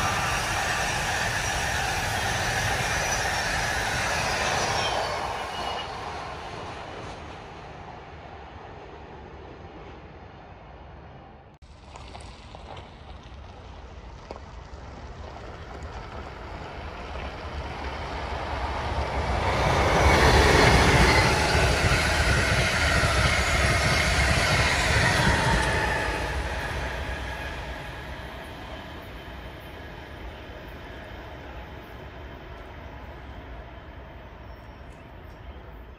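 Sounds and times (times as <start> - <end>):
high-speed train passing: 0.0 - 35.9.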